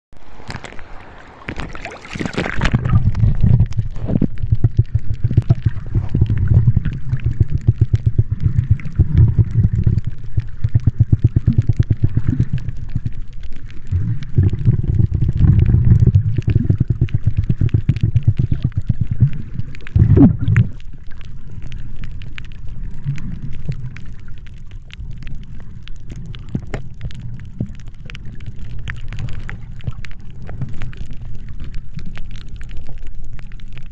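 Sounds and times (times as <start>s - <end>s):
underwater rumble and crackle: 0.1s - 33.9s
water splashing: 0.2s - 33.8s.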